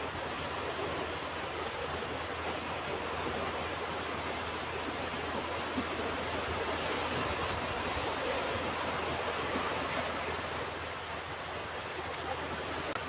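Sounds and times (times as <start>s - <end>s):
ocean waves washing on beach: 0.0s - 13.0s.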